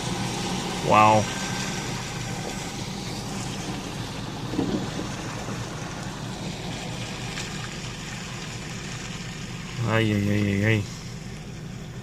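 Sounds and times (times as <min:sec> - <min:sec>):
traffic noise: 0:00.0 - 0:12.0
vehicle engine idling: 0:00.0 - 0:12.0
wind: 0:00.0 - 0:12.0.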